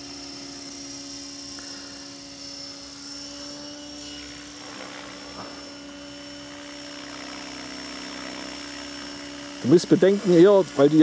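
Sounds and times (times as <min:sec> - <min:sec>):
model helicopter humming and whining: 0:00.0 - 0:11.0.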